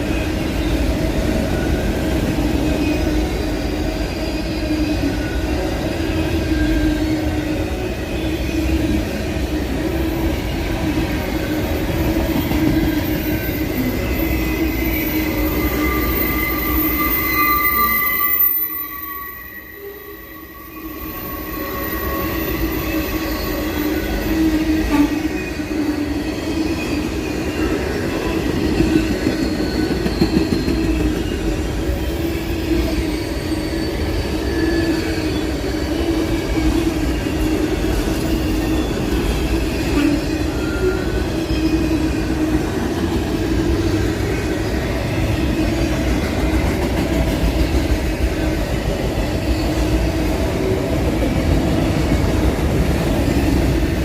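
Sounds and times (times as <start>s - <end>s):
train wheels rumbling on rail: 0.0s - 54.0s
high-pitched wheel squeals: 1.5s - 46.6s.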